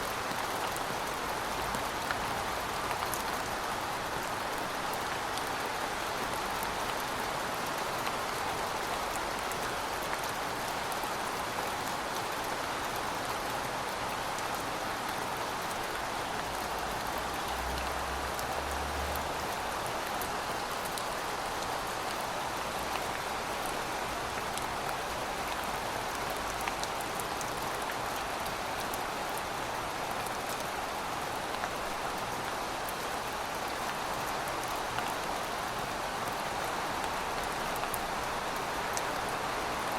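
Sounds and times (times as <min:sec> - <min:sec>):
rain falling on pavement: 0:00.0 - 0:39.9.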